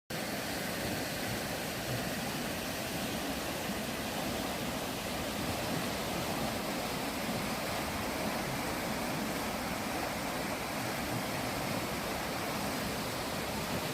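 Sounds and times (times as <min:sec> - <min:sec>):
fast-flowing water rushing: 0:00.1 - 0:13.9.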